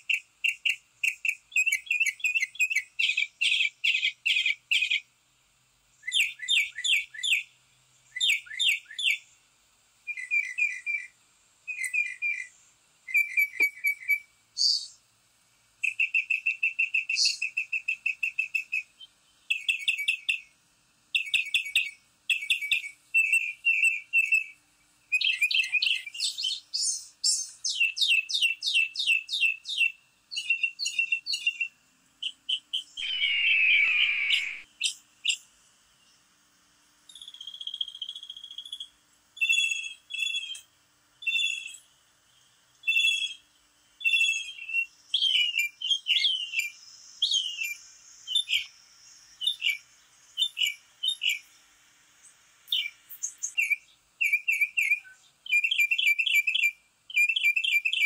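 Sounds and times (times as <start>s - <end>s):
songbirds singing and chirping: 0.0s - 5.2s, 5.8s - 15.1s, 15.8s - 58.0s.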